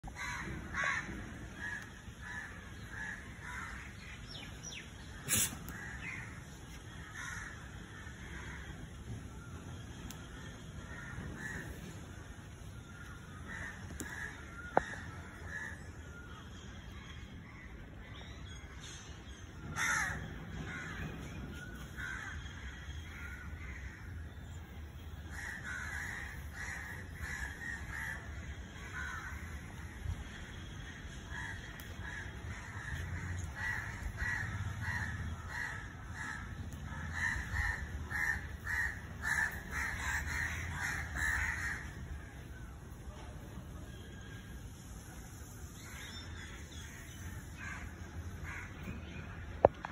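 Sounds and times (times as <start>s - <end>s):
birds calling: 0.0s - 42.9s.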